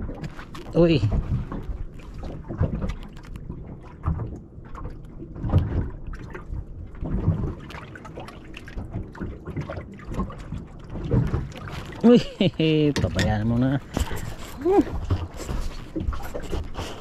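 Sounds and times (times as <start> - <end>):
small waves slapping a boat hull: 0.0 - 17.0.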